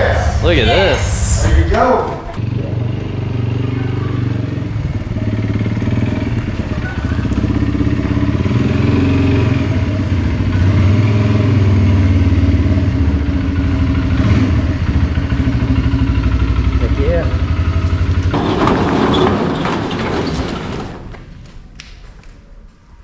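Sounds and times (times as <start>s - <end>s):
utility vehicle engine running: 1.8s - 21.5s.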